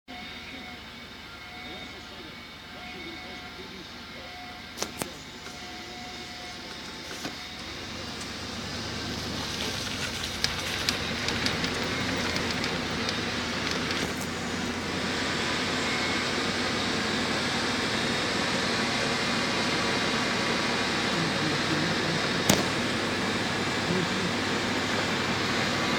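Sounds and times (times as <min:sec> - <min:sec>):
car tyre and engine noise: 0:03.9 - 0:25.9.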